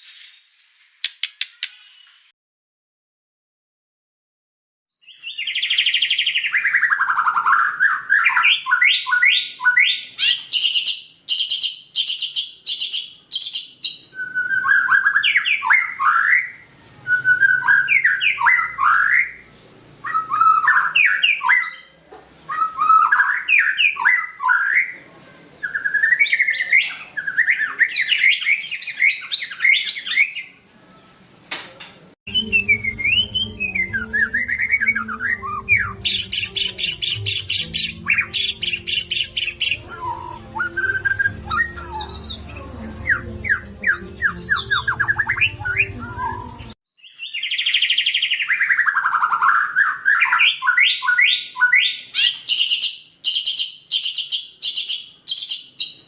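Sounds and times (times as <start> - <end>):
bird singing whistled song: 4.9 - 31.2, 32.3 - 56.0.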